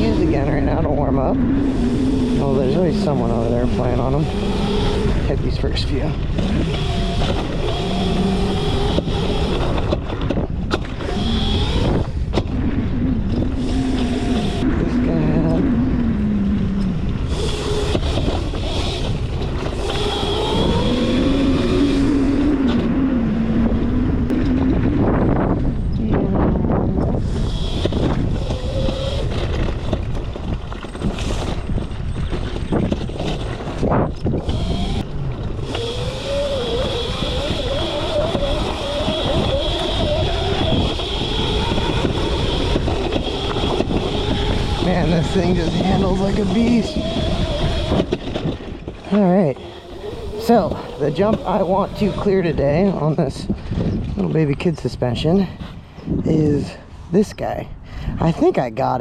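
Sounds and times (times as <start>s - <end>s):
electric motor whining: 0.0s - 54.2s
low rumble: 0.0s - 58.8s
wind on microphone: 0.0s - 59.0s.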